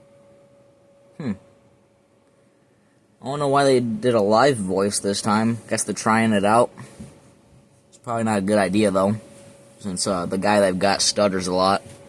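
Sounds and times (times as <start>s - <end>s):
thin steady tone: 0.0s - 12.0s.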